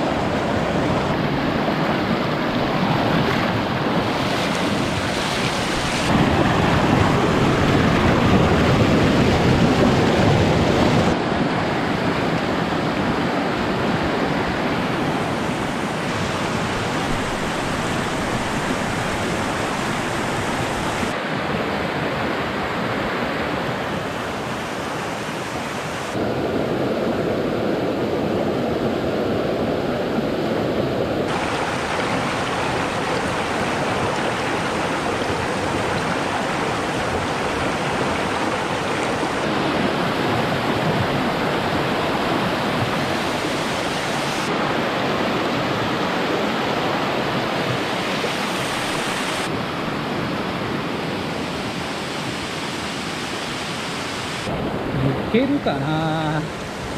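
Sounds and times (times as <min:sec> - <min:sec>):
stream rushing over rocks: 0:00.0 - 0:56.9.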